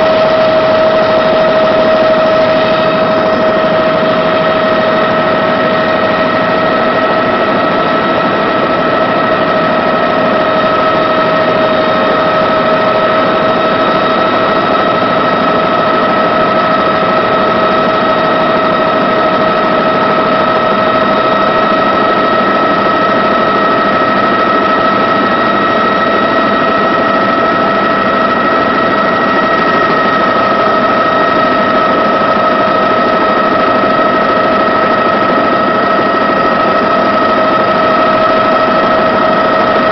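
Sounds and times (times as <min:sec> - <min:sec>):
constant whine: 0:00.0 - 0:39.9
helicopter engine and rotor drone: 0:00.0 - 0:39.9.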